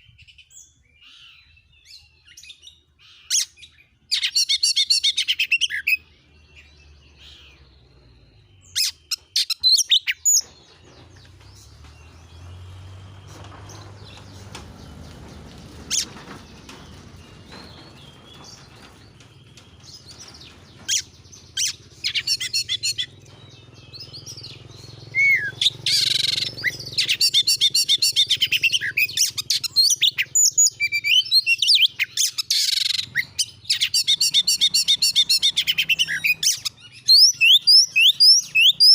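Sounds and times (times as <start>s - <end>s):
bird singing and chattering: 0.0s - 38.9s.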